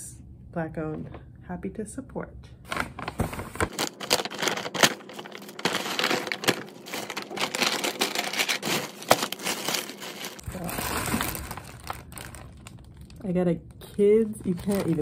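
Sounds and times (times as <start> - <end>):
paper and plastic bags rustling: 2.7 - 15.0.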